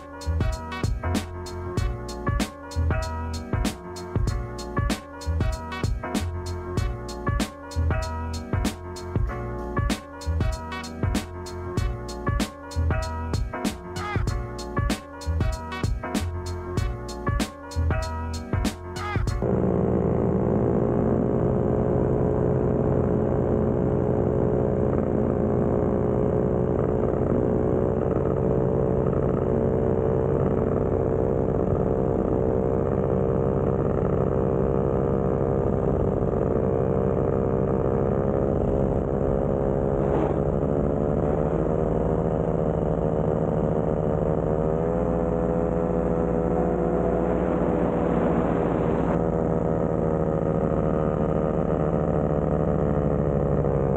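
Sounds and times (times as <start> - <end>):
paramotor engine and propeller droning: 0.0 - 53.9.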